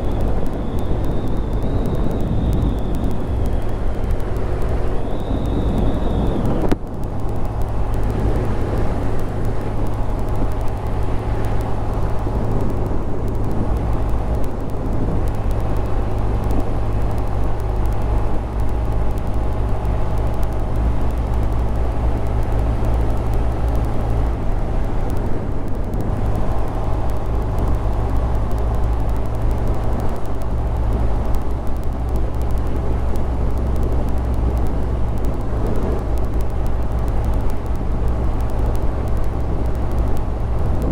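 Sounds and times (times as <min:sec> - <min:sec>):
motorcycle engine drone: 0:00.0 - 0:40.9
wind and road noise: 0:00.0 - 0:40.9.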